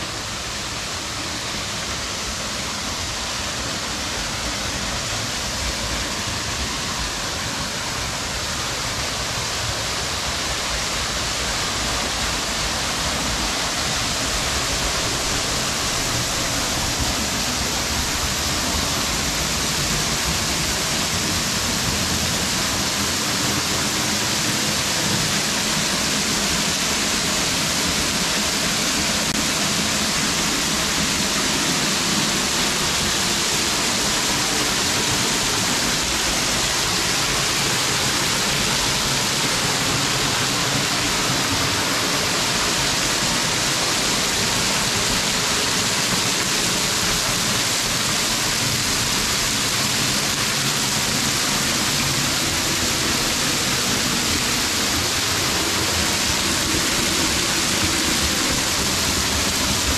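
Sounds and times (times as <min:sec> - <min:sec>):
waterfall splashing onto rocks: 0:00.0 - 0:59.9.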